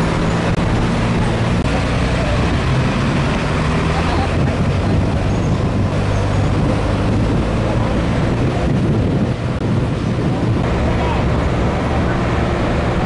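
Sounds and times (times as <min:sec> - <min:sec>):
road noise: 0:00.0 - 0:13.0
truck engine running: 0:00.0 - 0:13.0
wind noise: 0:00.0 - 0:13.0.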